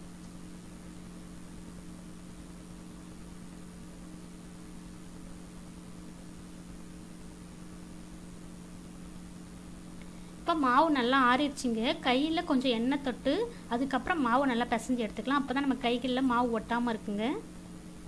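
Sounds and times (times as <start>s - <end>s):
low hum with hiss: 0.0s - 18.0s.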